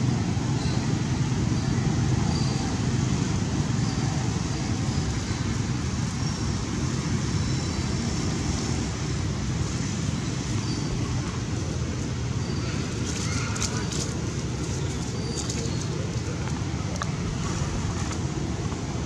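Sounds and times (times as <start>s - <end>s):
low rumbling outdoor noise: 0.0s - 19.0s.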